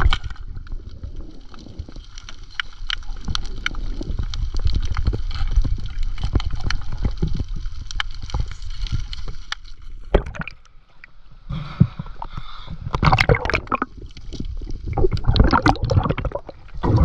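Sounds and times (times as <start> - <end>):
water sloshing and splashing: 0.0 - 11.4, 12.0 - 17.0.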